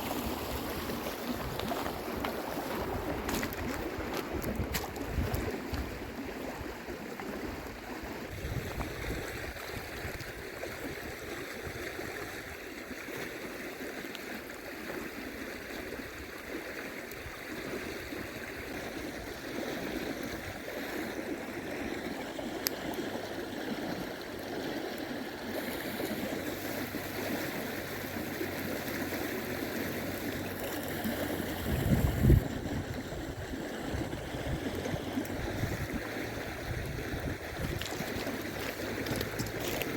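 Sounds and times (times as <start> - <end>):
flowing river rushing: 0.0 - 39.9.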